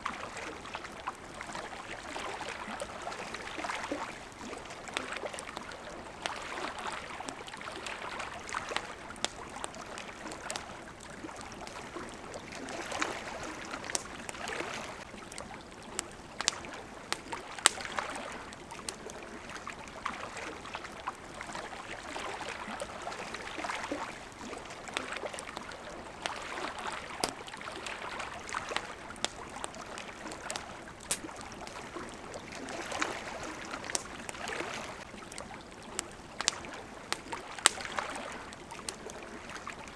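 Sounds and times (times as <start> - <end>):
small waves lapping at shore: 0.0 - 39.9
campfire crackling and popping: 0.1 - 39.9.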